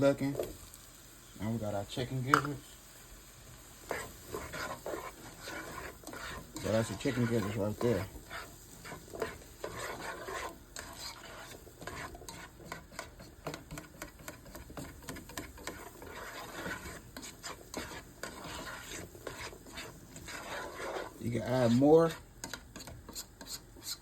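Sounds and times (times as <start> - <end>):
utensil stirring food in a pan: 0.0 - 24.0.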